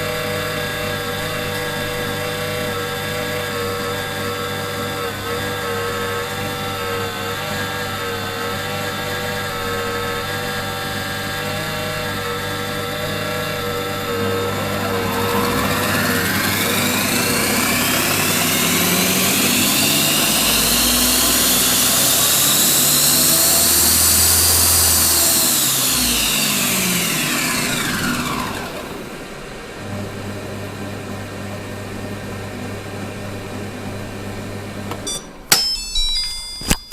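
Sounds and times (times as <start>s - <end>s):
kitchen appliance motor whining: 0.0s - 36.1s.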